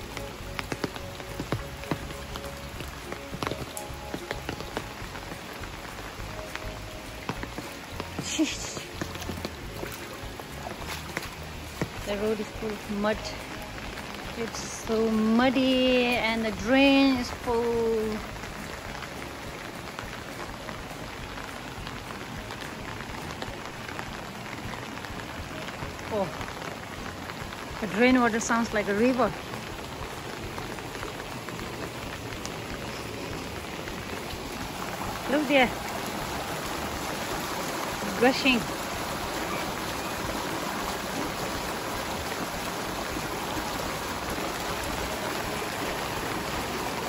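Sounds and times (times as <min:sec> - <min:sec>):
rain on wet ground: 0:00.0 - 0:47.0
rainwater rushing in a drain: 0:00.0 - 0:47.0.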